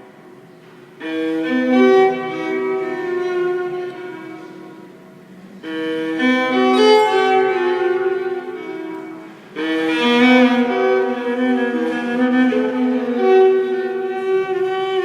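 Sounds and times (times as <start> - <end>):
violin and cello music: 1.0 - 5.0, 5.6 - 15.0.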